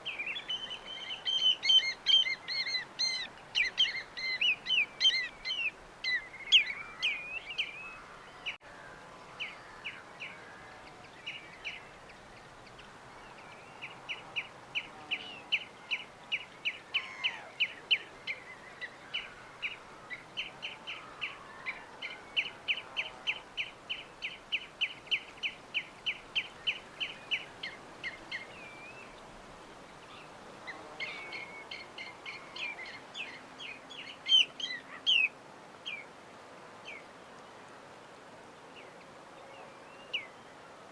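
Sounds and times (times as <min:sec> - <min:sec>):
small birds chirping: 0:00.0 - 0:08.6, 0:09.3 - 0:36.1
faint steady hiss: 0:00.0 - 0:40.9.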